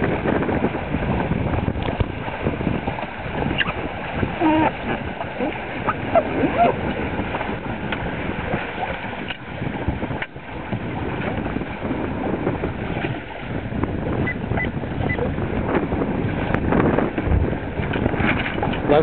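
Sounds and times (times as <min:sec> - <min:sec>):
water rushing along hull: 0:00.0 - 0:19.0
wind buffeting microphone: 0:00.0 - 0:19.0.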